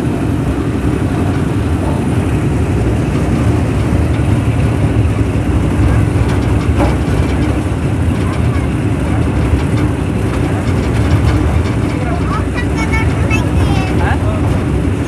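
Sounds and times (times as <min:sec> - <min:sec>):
toy train engine and wheel rumble: 0:00.0 - 0:15.0.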